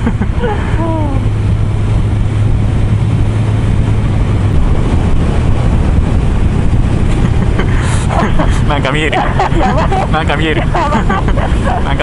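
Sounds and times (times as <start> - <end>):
motorcycle engine cruising: 0.0 - 12.0
wind noise on microphone: 0.0 - 12.0.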